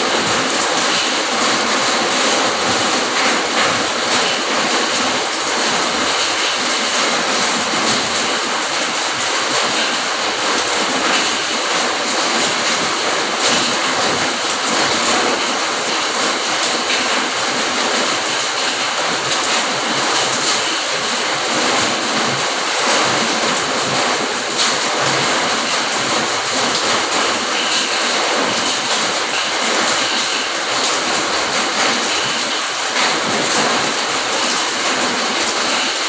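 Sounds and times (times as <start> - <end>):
heavy rain falling: 0.0 - 36.0
sharp raindrop hits: 0.1 - 36.0.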